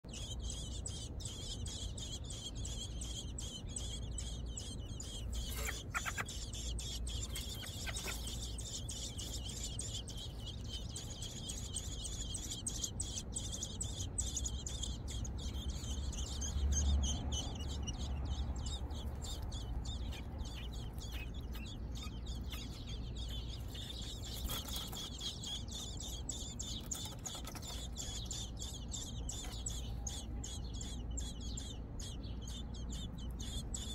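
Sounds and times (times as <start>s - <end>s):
nestlings peeping: 0.0s - 33.9s
low steady rumble: 0.1s - 33.9s.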